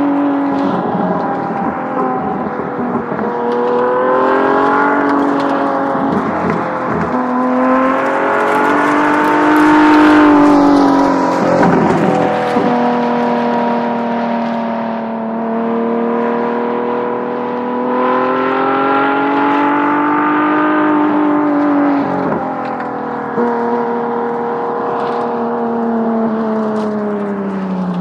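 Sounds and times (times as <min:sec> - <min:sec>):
car engine running under load: 0:00.0 - 0:28.0.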